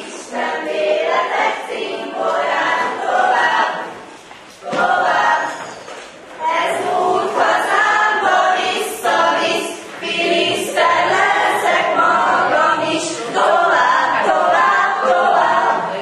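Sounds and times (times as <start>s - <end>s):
group of teenagers singing: 0.0s - 16.0s.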